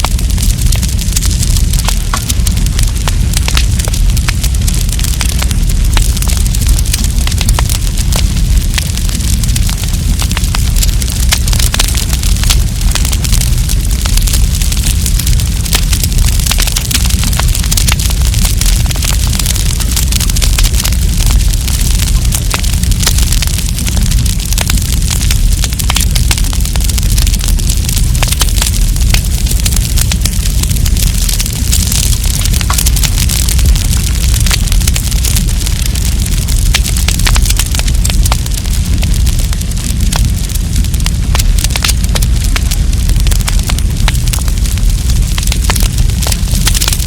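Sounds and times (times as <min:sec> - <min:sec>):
campfire crackling and popping: 0:00.0 - 0:47.0
low rumble: 0:00.0 - 0:47.0.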